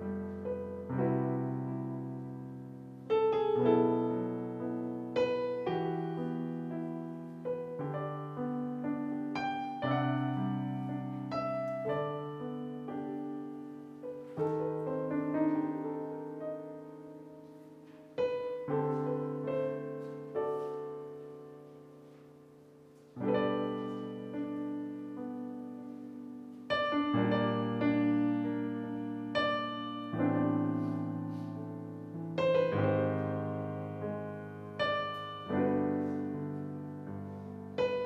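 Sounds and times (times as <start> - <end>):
solo piano chords: 0.0 - 38.0.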